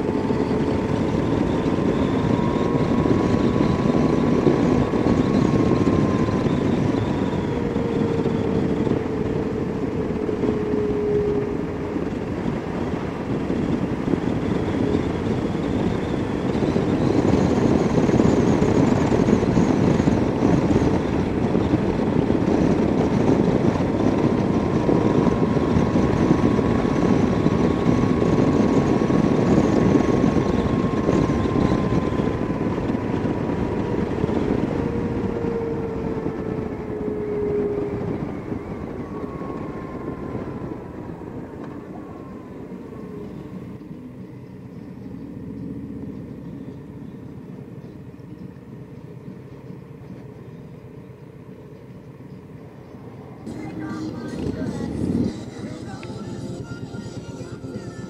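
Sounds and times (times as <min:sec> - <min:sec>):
wind rush: 0:00.0 - 0:50.0, 0:50.8 - 0:58.0
faint whine: 0:00.0 - 0:58.0
motorcycle engine cruising: 0:00.0 - 0:58.0.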